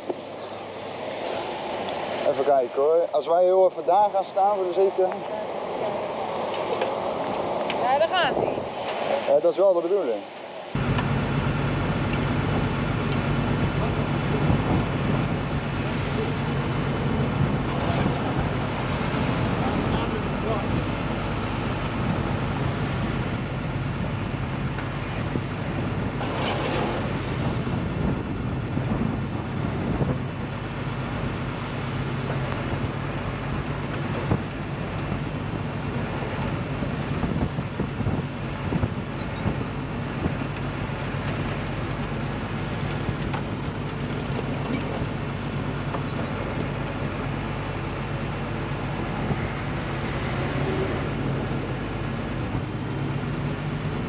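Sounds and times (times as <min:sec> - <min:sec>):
truck engine running: 0:10.7 - 0:54.0.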